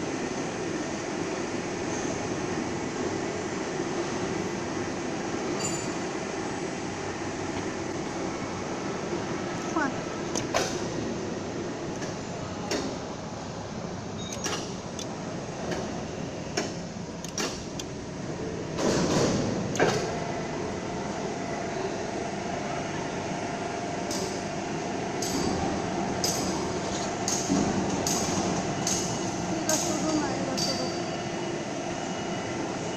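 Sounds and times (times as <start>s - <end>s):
mechanical background noise: 0.0s - 32.9s.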